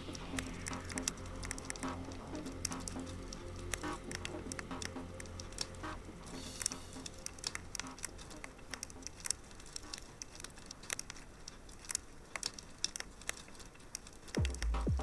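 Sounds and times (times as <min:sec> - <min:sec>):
faint hiss: 0:00.0 - 0:15.0
wood fire crackling: 0:00.0 - 0:15.0.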